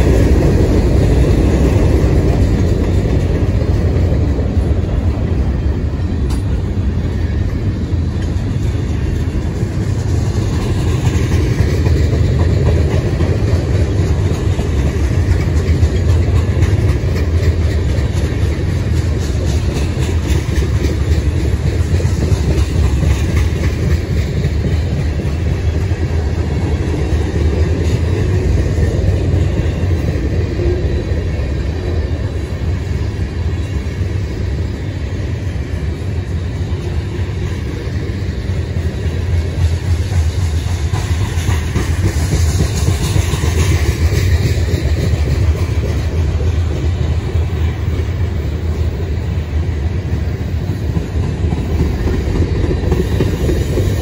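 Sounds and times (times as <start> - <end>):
train cars rumbling on rails: 0.0 - 54.0
train wheel clicks: 0.0 - 54.0.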